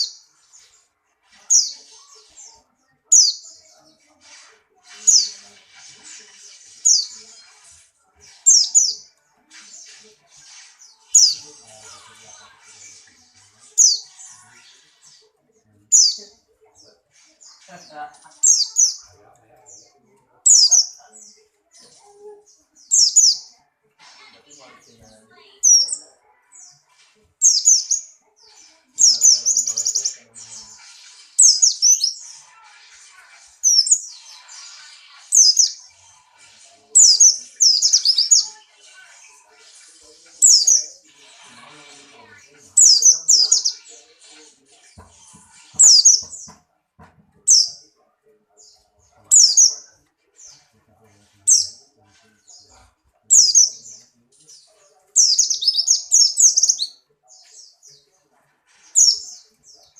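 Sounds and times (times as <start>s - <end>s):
bird twittering song: 0.0s - 4.0s, 4.9s - 23.6s, 27.4s - 46.6s, 47.4s - 47.8s, 48.5s - 58.1s, 58.8s - 59.9s.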